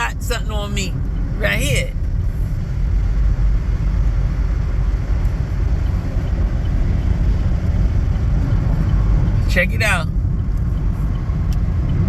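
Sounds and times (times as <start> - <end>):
road and engine rumble in car cabin: 0.0 - 12.0.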